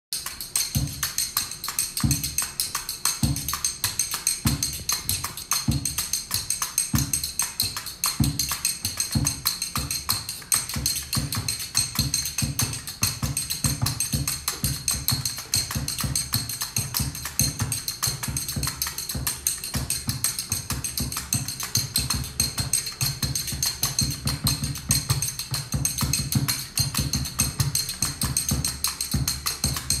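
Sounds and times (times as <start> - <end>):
frame drum samba rhythm: 0.2 - 30.0.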